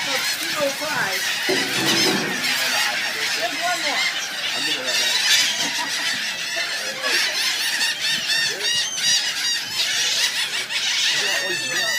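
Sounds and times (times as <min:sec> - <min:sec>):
gulls squawking: 0:00.0 - 0:11.9.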